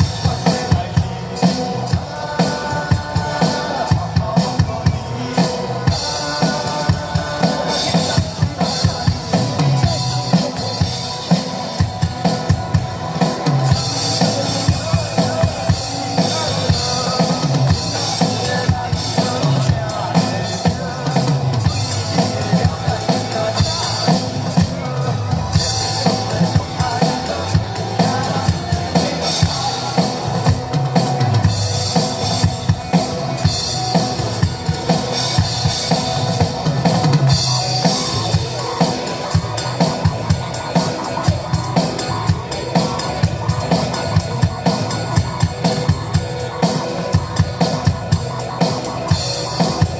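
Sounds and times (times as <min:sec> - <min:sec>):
band music: 0:00.0 - 0:49.9
drum kit beat: 0:00.0 - 0:49.9.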